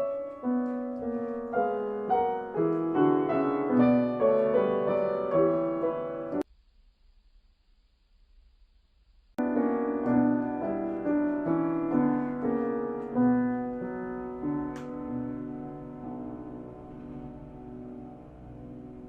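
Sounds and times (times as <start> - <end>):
piano notes and chords: 0.0 - 6.4, 9.4 - 19.0.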